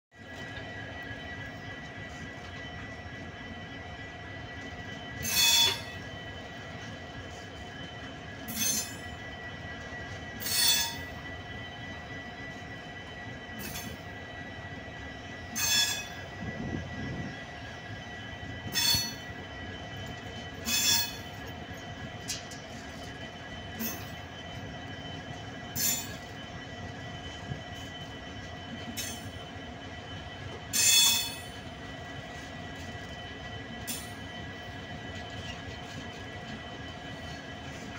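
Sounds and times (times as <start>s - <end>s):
train coaches rolling past: 0.1s - 37.9s
wheels squealing on rails: 0.2s - 37.9s.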